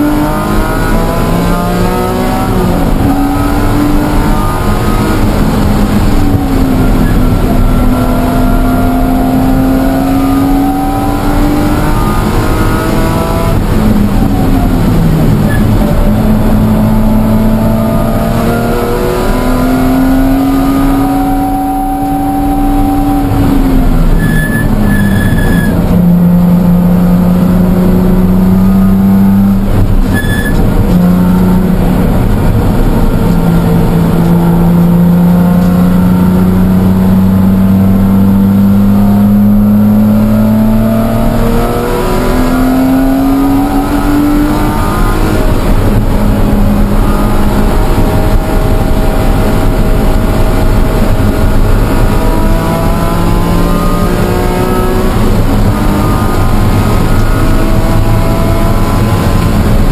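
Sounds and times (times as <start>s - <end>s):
car engine running hard: 0.0s - 59.9s.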